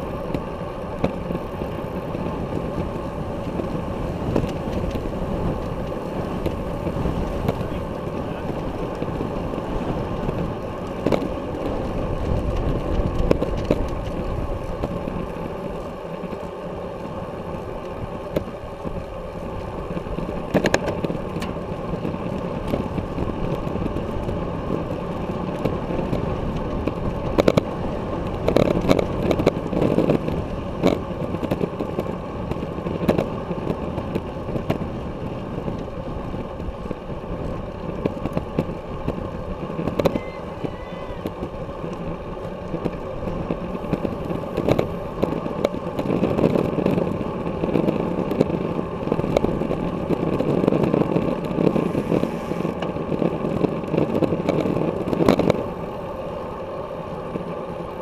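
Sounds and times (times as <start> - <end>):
bicycle wind and tyre rush: 0.0 - 58.0.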